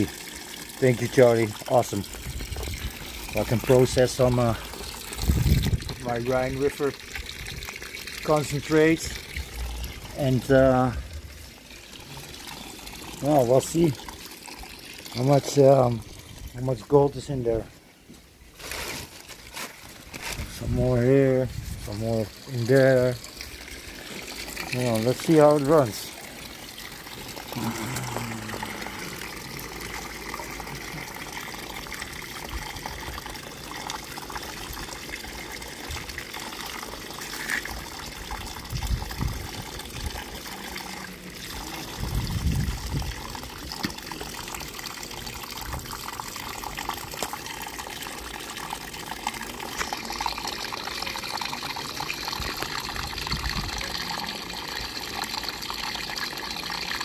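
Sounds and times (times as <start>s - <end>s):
water trickling down a sluice: 0.0s - 57.0s.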